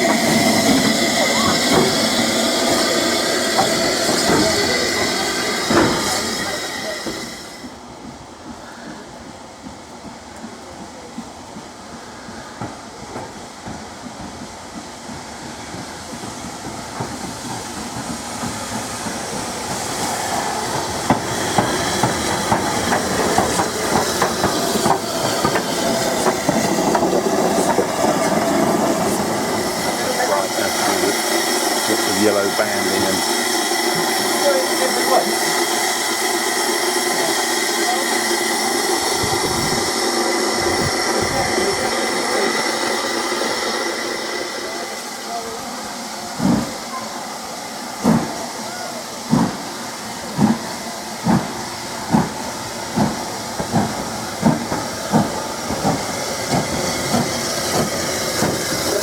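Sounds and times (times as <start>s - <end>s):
steam hissing: 0.0s - 59.0s
steam locomotive approaching: 0.0s - 59.0s.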